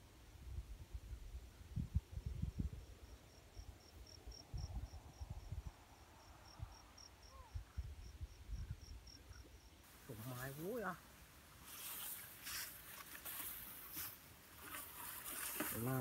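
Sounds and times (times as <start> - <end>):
insect chirping: 2.2 - 16.0.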